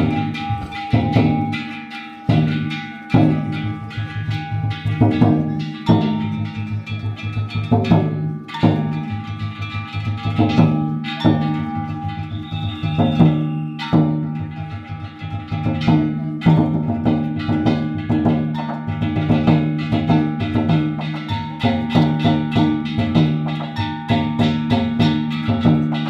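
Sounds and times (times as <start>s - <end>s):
light percussion: 0.0s - 26.0s.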